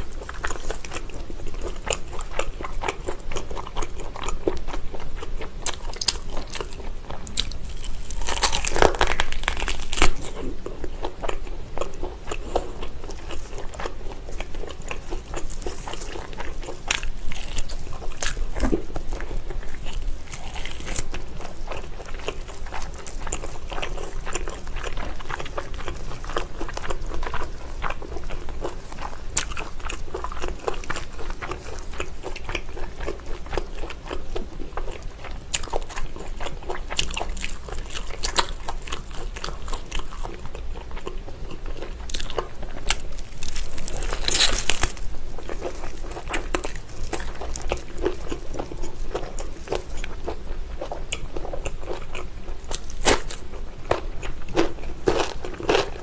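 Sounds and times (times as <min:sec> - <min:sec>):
wet biting and chewing: 0:00.0 - 0:56.0.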